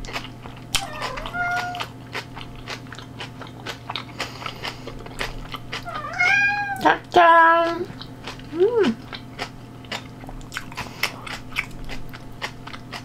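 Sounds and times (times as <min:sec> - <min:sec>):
chewing and crunching food: 0:00.0 - 0:13.0.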